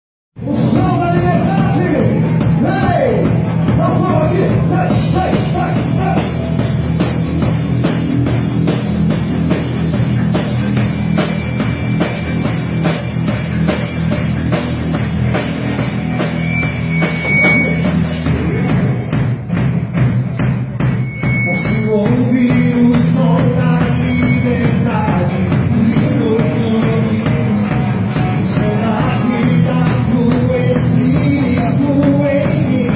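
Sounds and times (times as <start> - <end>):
drum kit beat: 0.4 - 32.9.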